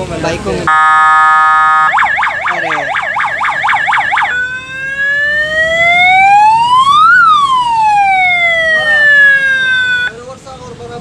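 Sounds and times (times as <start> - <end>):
electronic siren yelping and wailing: 0.7 - 10.1.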